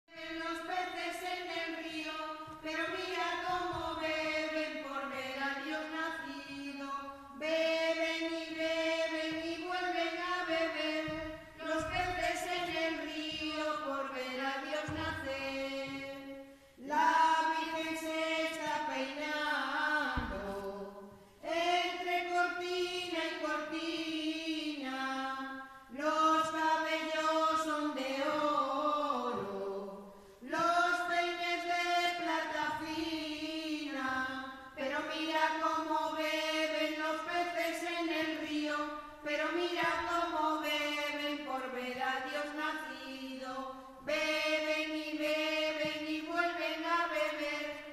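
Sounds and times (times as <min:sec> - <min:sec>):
women's choir singing: 0:00.2 - 0:47.9.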